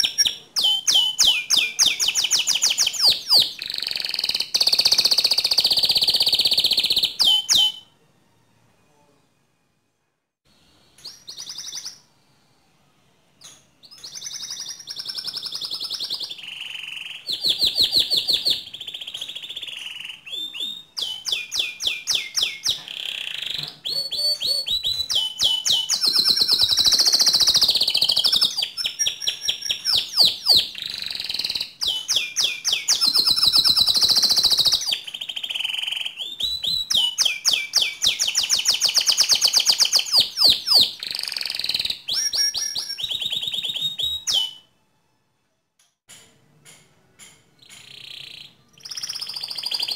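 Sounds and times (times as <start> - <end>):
canary singing trills: 0.0 - 7.9, 11.0 - 12.1, 13.4 - 44.7, 47.6 - 49.9.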